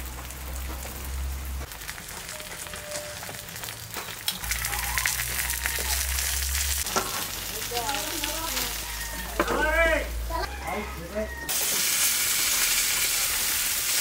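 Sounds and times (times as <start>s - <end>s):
food sizzling and crackling in oil: 0.0s - 9.5s, 11.5s - 14.0s.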